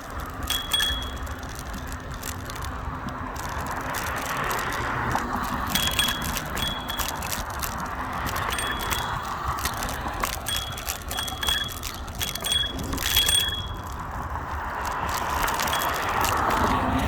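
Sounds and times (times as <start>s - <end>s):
high-pitched metallic pings: 0.0s - 2.7s, 3.4s - 14.2s, 14.8s - 16.8s
scooter deck rattling: 0.0s - 17.0s
scooter wheels rumbling: 0.0s - 17.0s.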